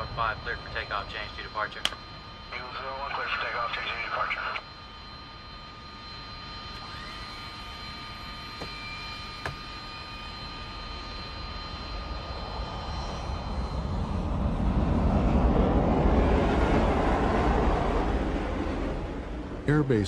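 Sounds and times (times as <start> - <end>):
jet engine high whine: 0.0 - 20.0
jet moving along runway: 0.0 - 20.0.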